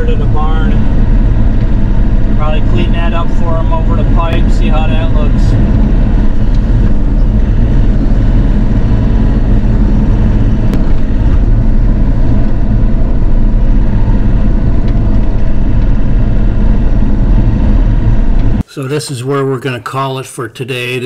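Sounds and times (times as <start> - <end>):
excavator diesel engine running: 0.0 - 18.6.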